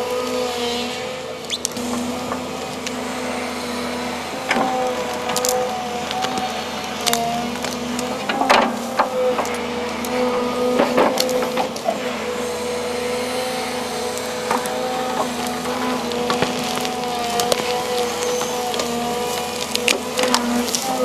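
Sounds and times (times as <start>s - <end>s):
excavator engine whine: 0.0s - 21.0s
tree roots cracking: 1.5s - 21.0s.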